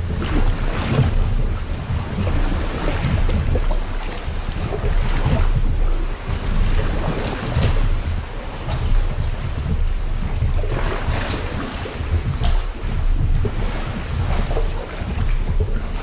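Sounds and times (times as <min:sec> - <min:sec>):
seawater sloshing in a cave: 0:00.0 - 0:16.0
wind buffeting microphone: 0:00.0 - 0:16.0.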